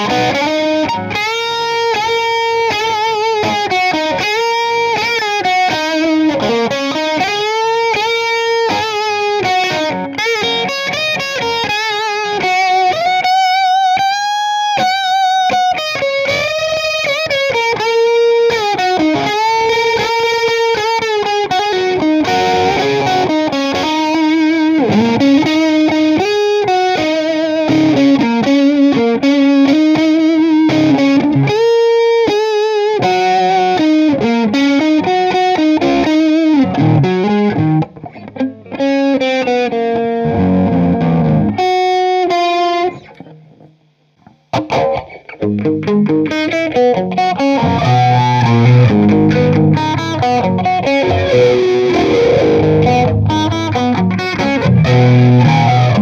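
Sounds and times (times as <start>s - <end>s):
overdriven electric guitar lead: 0.0s - 56.0s.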